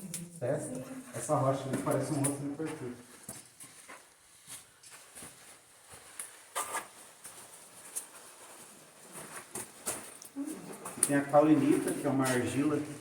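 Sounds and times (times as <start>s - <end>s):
faint clicks and scuffs: 0.0s - 13.0s.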